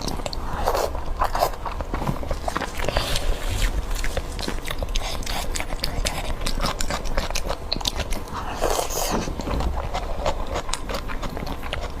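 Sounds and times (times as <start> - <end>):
crunchy food chewing: 0.0 - 12.0.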